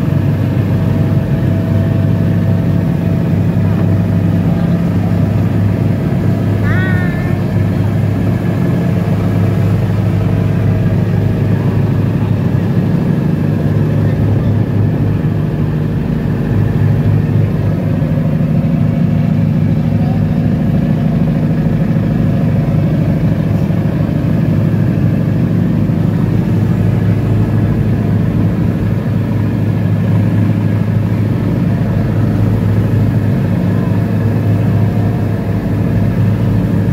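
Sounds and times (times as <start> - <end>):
ferry engine droning: 0.0 - 36.9.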